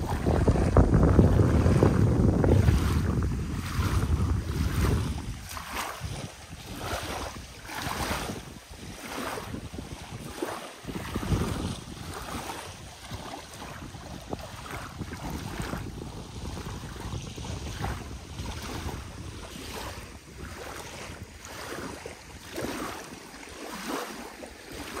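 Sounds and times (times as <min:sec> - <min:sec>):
lake waves washing on shore: 0:00.0 - 0:25.0
wind buffeting microphone: 0:00.0 - 0:25.0.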